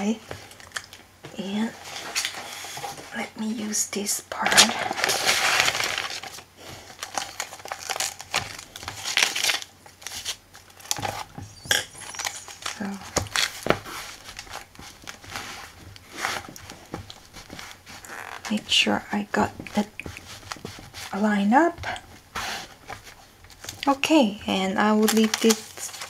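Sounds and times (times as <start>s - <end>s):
paper rustling and crinkling: 0.1s - 26.0s.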